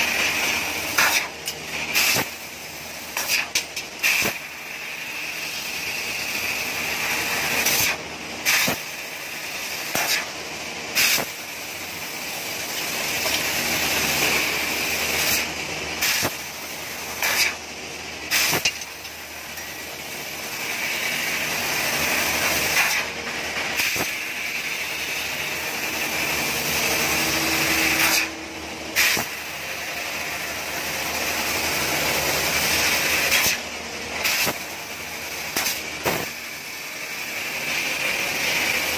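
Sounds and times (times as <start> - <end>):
laser cutter gas hiss: 0.0 - 38.9.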